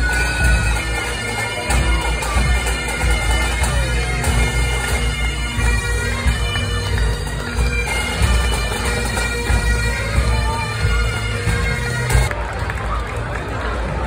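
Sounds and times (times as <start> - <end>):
bagpipes playing: 0.0 - 12.3.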